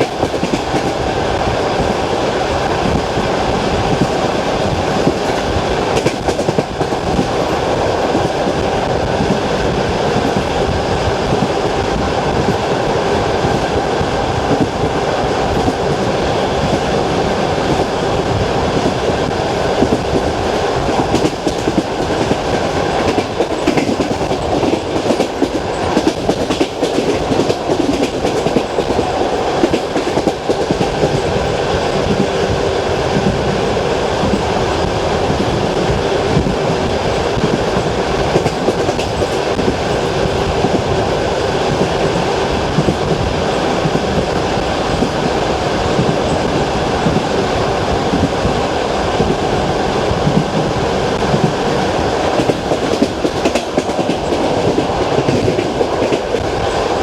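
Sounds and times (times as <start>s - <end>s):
train carriage rumble: 0.0s - 57.0s
train wheels clacking on rails: 0.0s - 57.0s.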